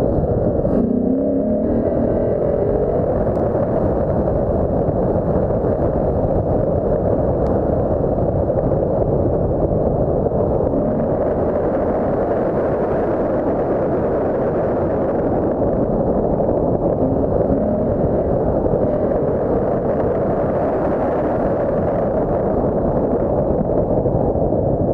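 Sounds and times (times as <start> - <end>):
muffled engine rumble: 0.0 - 24.9
wind noise on microphone: 0.0 - 24.9.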